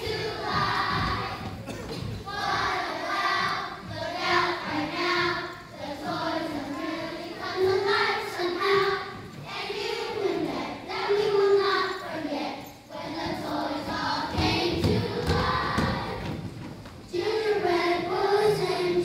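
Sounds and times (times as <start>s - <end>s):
children singing in unison: 0.0s - 19.0s.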